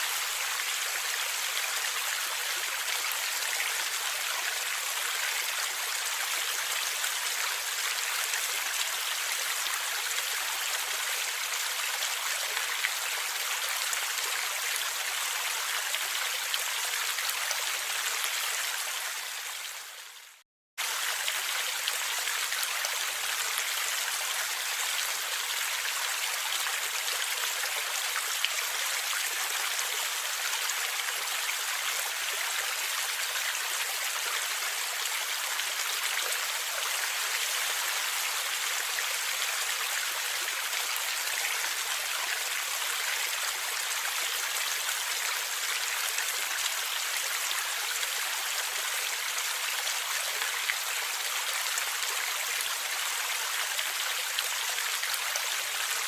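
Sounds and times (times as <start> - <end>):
stream water flowing and gurgling: 0.0 - 56.0.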